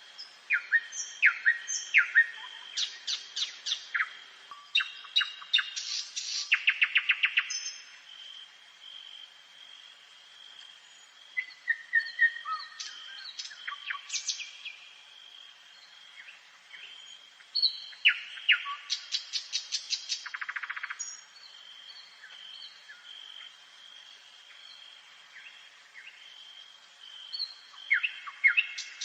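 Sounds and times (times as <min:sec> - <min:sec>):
nightingale singing: 0:00.0 - 0:08.0, 0:10.8 - 0:15.0, 0:15.6 - 0:23.5, 0:24.5 - 0:29.0.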